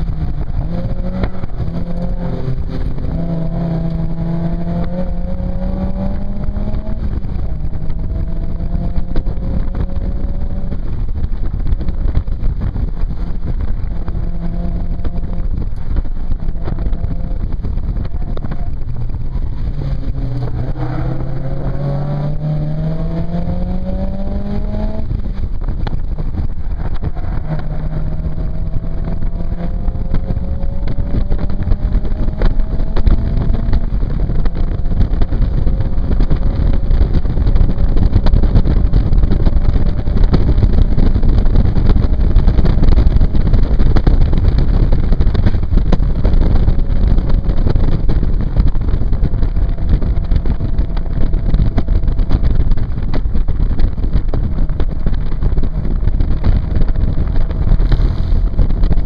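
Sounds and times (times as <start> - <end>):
car engine accelerating: 0.0 - 59.0
wind noise on microphone: 0.0 - 59.0.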